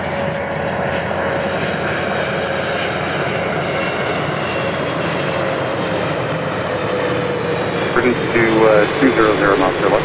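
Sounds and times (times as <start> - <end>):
jet engine rush with whine: 0.0 - 10.0.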